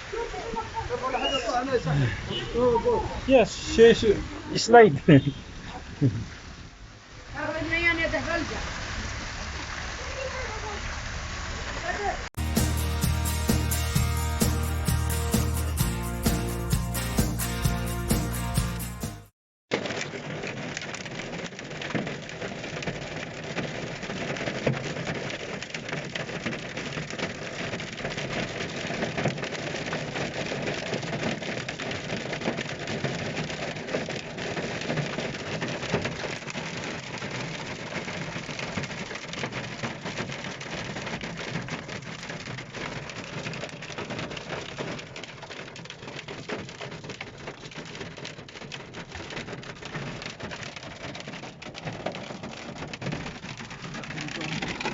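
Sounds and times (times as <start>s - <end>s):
hail and rain pelting down: 0.0s - 17.7s, 19.7s - 54.9s.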